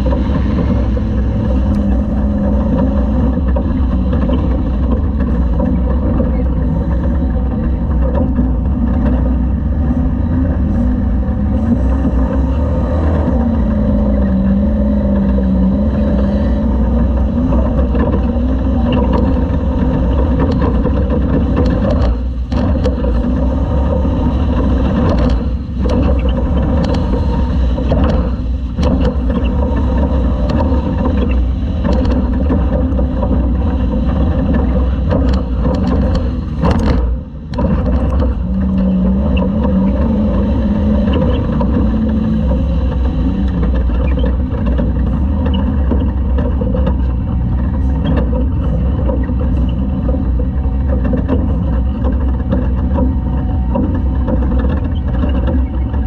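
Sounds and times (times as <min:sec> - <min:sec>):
truck engine running loud: 0:00.0 - 0:56.0.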